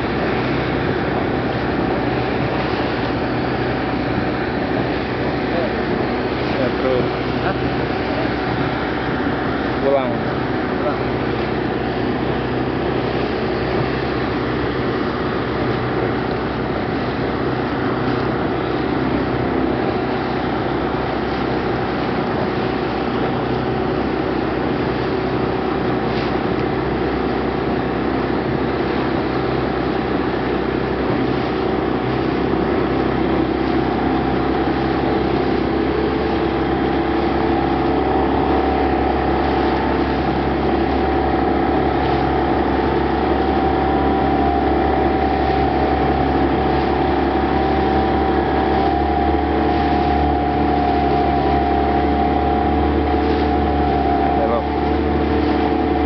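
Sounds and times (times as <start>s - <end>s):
ship machinery droning: 0.0s - 56.0s.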